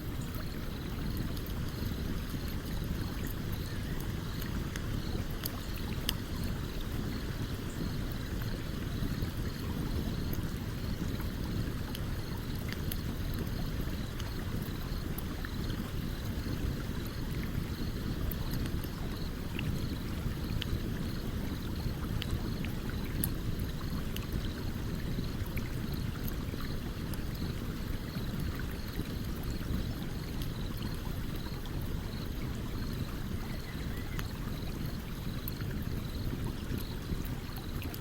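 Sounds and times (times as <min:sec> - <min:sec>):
stream flowing: 0:00.0 - 0:38.0
campfire crackling and popping: 0:00.3 - 0:33.1.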